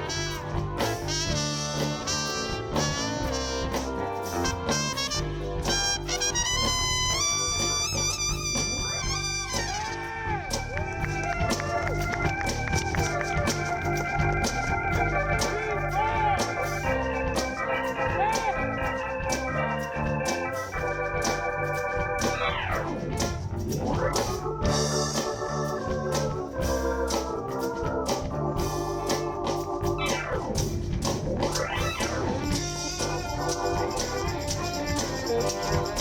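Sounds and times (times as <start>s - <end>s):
bass guitar: 0.0s - 36.0s
drums: 0.0s - 36.0s
organ keyboard chords: 0.0s - 36.0s.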